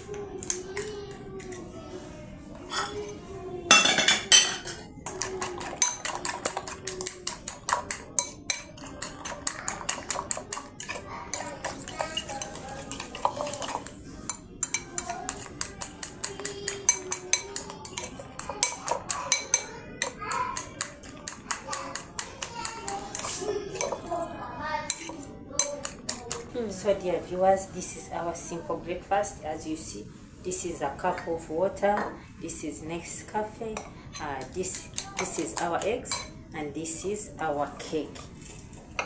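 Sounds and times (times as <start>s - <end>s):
metal utensil whisking in a bowl: 0.0s - 1.7s, 2.6s - 39.0s.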